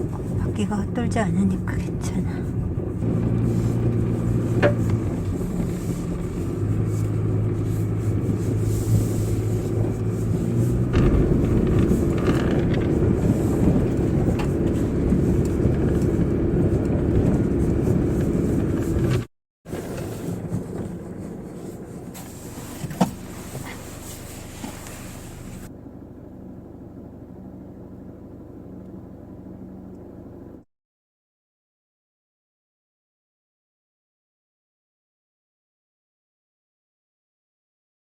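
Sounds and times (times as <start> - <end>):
car engine and tyre rumble: 0.0 - 30.6
quiet steady rumble: 0.0 - 30.7.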